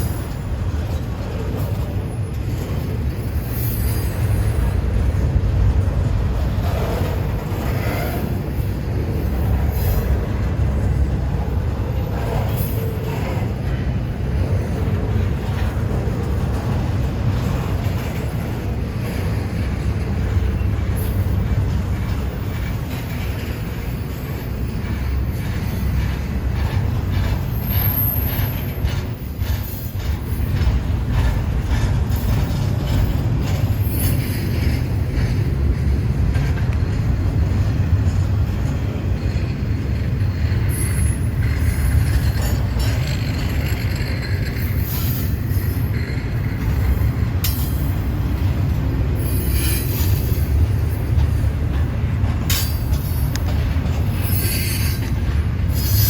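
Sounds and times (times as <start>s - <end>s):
freight train rumbling: 0.0s - 56.0s
wheel clicks over rail joints: 0.0s - 56.0s.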